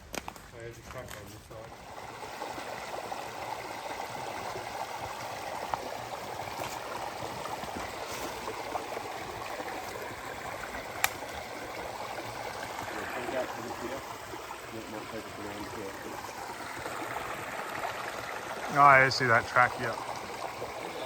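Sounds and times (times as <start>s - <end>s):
creek water over rocks: 0.0s - 21.0s.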